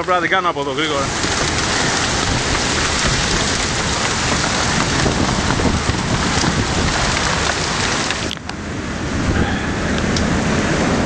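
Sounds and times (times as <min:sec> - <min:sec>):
heavy rain and hail: 0:00.0 - 0:11.0.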